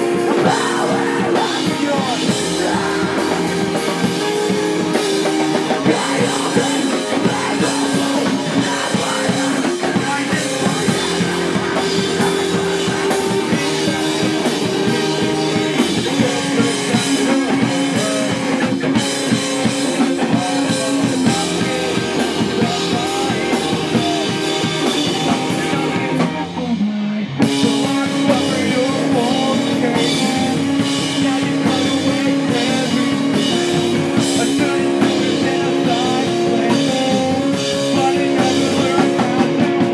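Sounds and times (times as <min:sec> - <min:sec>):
loud live rock band: 0:00.0 - 0:39.9.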